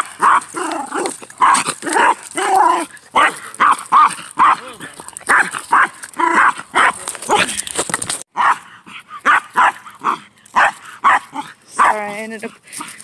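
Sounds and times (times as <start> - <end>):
small dog barking: 0.0 - 7.5, 8.4 - 12.1.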